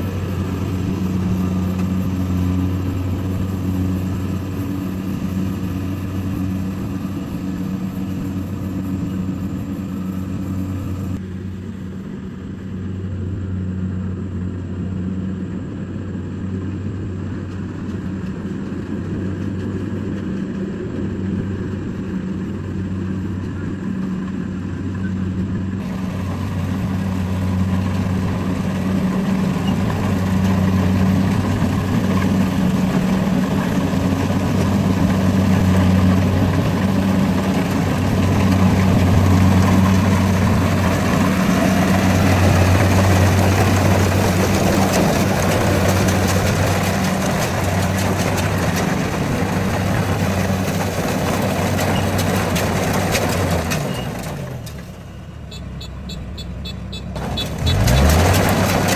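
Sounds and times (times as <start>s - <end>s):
combine harvester engine humming: 0.0s - 58.9s
rough noisy rumble: 0.0s - 58.9s.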